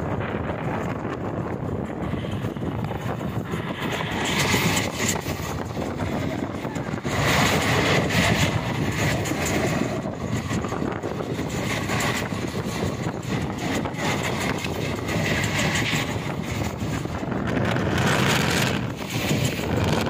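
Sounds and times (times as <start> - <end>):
rush of air: 0.0 - 20.0
train wheels on rails: 0.0 - 20.0.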